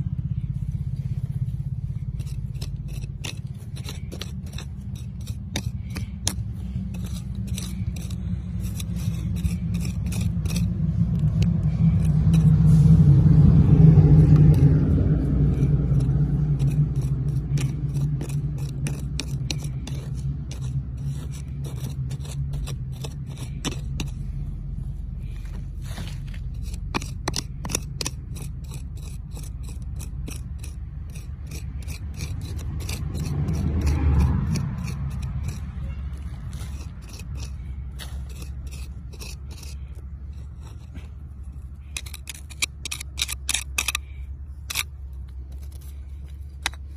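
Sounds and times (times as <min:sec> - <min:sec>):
hand tool scraping dry soil: 0:00.0 - 0:46.9
steady low rumble: 0:00.0 - 0:46.9.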